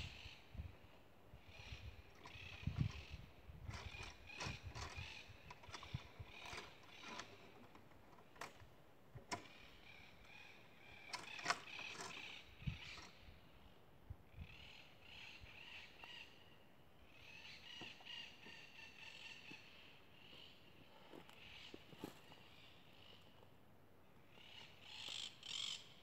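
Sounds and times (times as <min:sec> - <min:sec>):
birds calling: 0:01.4 - 0:08.6, 0:09.2 - 0:13.8, 0:14.4 - 0:23.4.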